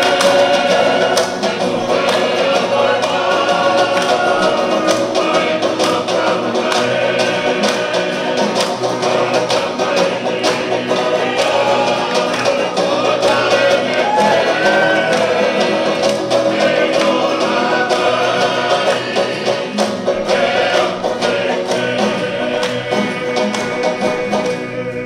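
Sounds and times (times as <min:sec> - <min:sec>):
group singing: 0:00.0 - 0:25.0
strummed guitars and banjos: 0:00.0 - 0:25.0.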